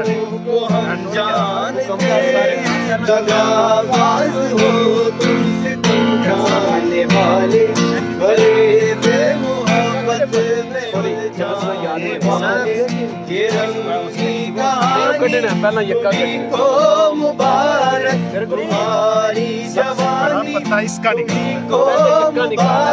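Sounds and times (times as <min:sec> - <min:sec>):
men singing together: 0:00.0 - 0:22.9
strummed acoustic guitar: 0:00.0 - 0:22.9.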